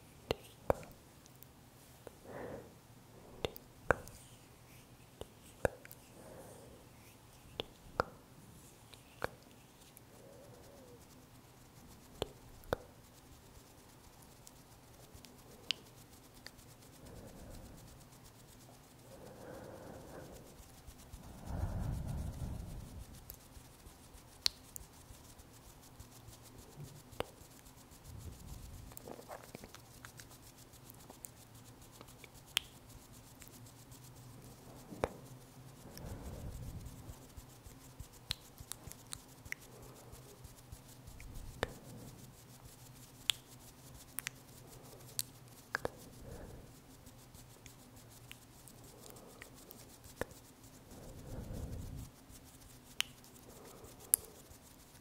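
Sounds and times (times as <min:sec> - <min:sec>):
faint steady hum: 0:00.0 - 0:55.0
hands rubbing near microphone: 0:01.8 - 0:55.0.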